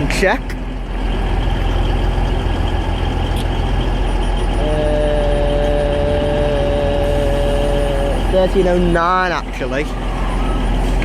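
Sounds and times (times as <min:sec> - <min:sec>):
diesel train engines rumbling: 0:00.0 - 0:11.0.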